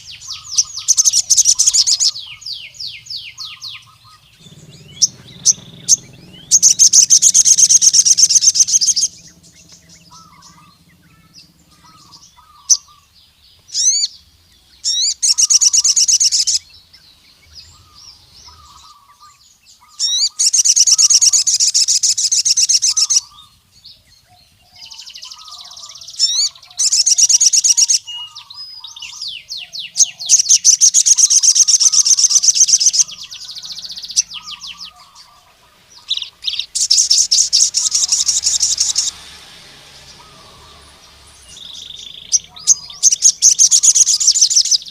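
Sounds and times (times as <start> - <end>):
bird high trills: 0.0 - 44.9.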